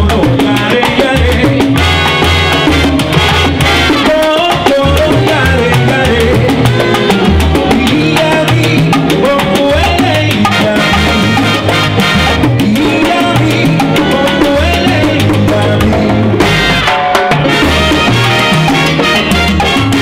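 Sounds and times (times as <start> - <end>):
salsa big band playing: 0.0 - 20.0.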